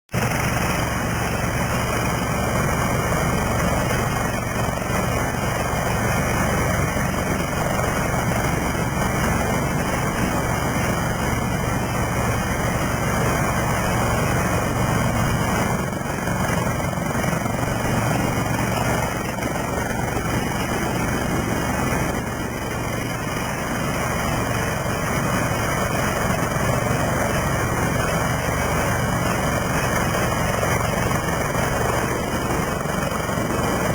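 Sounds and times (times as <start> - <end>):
helicopter turbine engines and rotor: 0.1 - 33.9.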